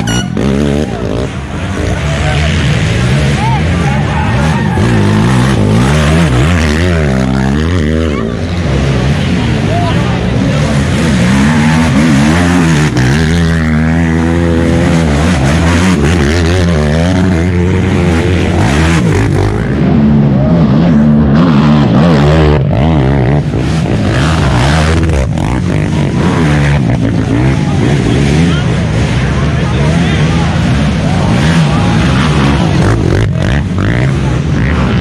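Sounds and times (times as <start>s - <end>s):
quad engines revving: 0.0s - 35.0s.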